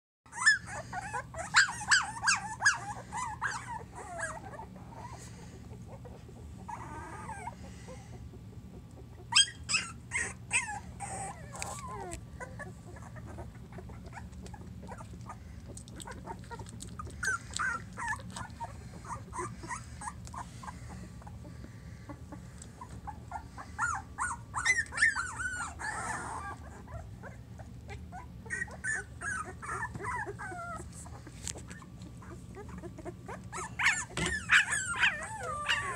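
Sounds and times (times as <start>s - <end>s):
puppies squeaking and whimpering: 0.3s - 35.9s.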